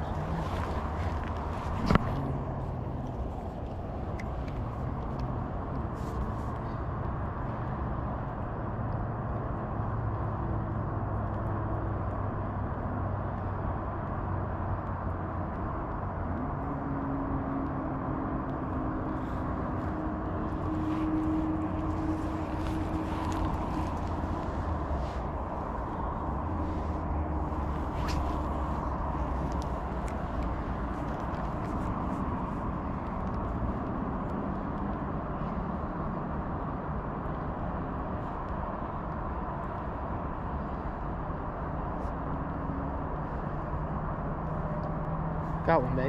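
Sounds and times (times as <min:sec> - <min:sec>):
distant traffic rumble: 0:00.0 - 0:46.0
faint engine drone: 0:00.0 - 0:46.0.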